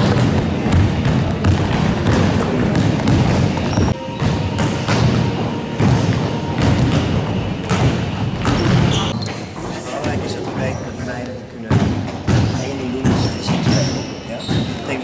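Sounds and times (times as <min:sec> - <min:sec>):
basketballs bouncing on wooden floor: 0:00.0 - 0:10.8, 0:11.6 - 0:15.0.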